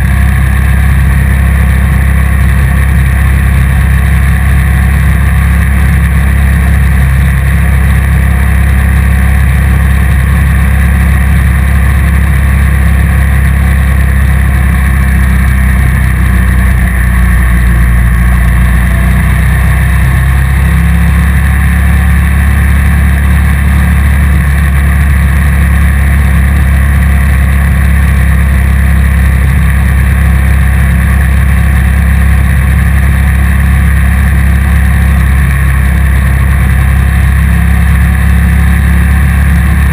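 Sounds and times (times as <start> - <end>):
motorcycle cruising: 0.0 - 39.9.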